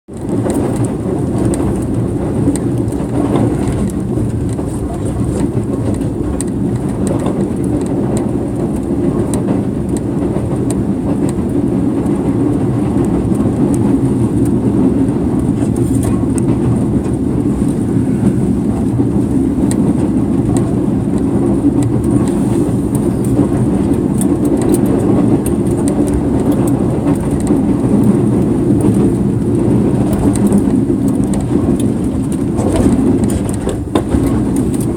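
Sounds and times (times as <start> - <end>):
moving train rumble: 0.1 - 34.9.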